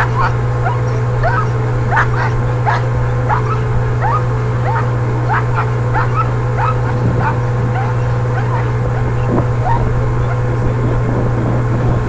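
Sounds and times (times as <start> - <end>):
dog whining and yelping: 0.0 - 10.3
steady low hum: 0.0 - 12.0.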